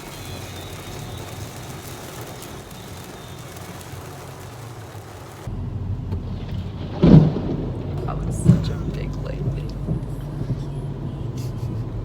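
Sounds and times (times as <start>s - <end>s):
car driving: 0.0s - 12.0s.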